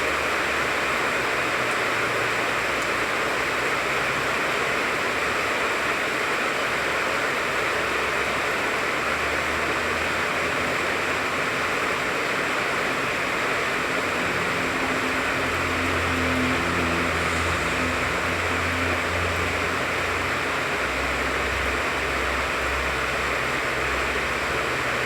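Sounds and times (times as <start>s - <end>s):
rain on leaves: 0.0s - 25.0s.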